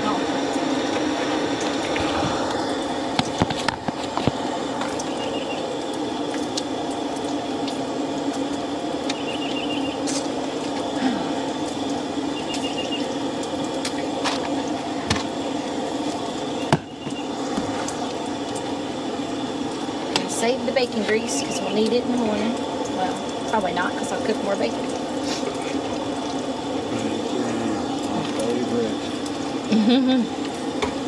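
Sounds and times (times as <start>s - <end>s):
bacon sizzling in a frying pan: 0.0s - 26.9s
fat popping and crackling: 0.4s - 29.7s.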